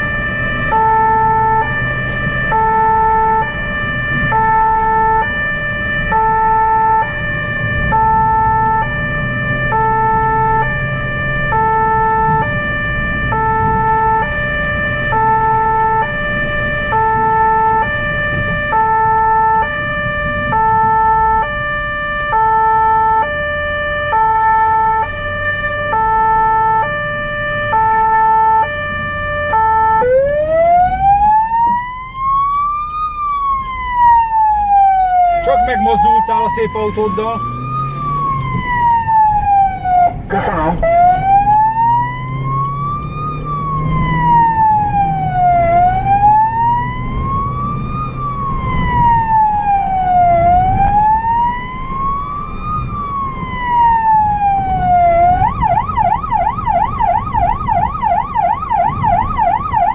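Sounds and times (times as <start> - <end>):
engine and road noise: 0.0 - 59.9
siren rising wail: 0.0 - 59.9
two-tone siren: 0.0 - 59.9.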